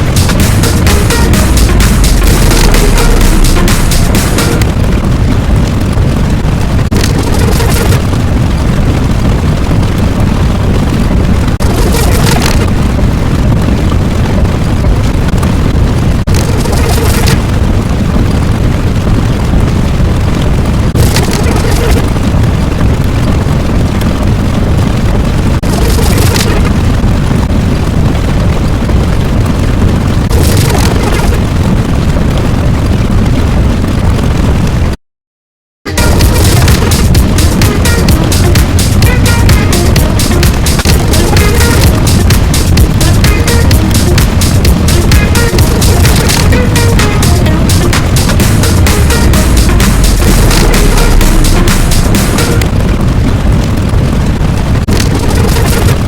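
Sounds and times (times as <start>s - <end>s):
low rumbling: 0.0s - 35.0s, 35.8s - 56.0s.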